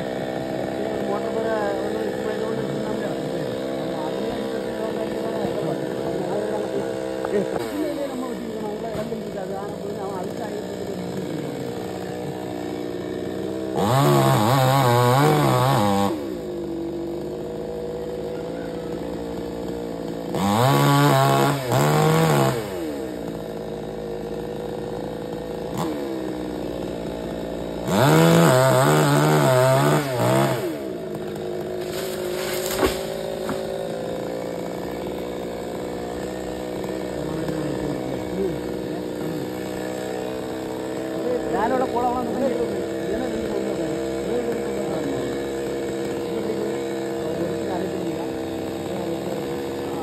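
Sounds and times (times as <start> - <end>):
chainsaw idling and revving: 0.0 - 50.0.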